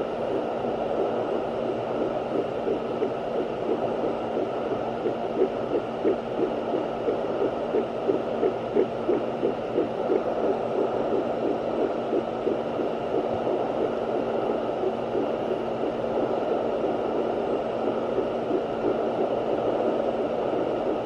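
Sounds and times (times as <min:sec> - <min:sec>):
doppler heartbeat pulses: 0:00.0 - 0:21.0
steady hum and static hiss: 0:00.0 - 0:21.0.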